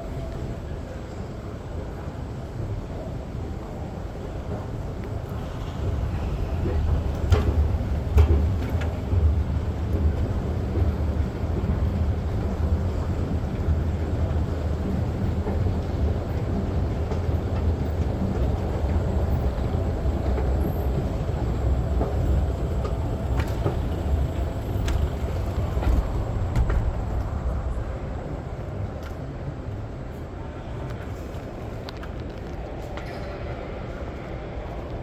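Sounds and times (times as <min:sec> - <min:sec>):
train rumbling: 0:00.0 - 0:35.0.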